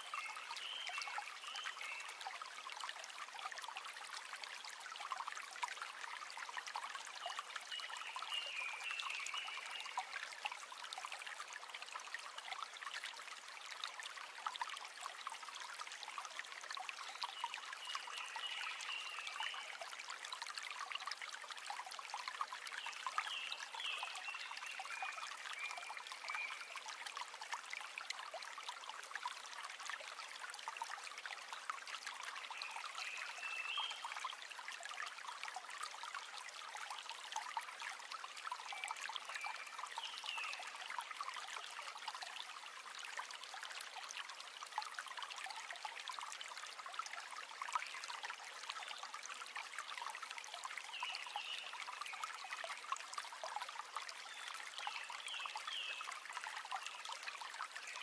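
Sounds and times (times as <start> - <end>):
river water trickling: 0.0 - 58.0.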